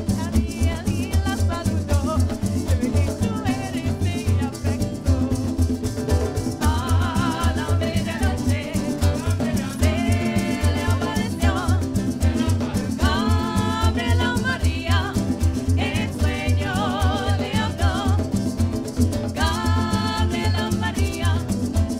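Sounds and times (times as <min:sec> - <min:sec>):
women singing with vibrato: 0:00.0 - 0:05.8, 0:06.5 - 0:21.9
pulsing bass: 0:00.0 - 0:21.9
quick rhythmic ticks: 0:00.0 - 0:21.9
strummed guitar: 0:00.0 - 0:21.9.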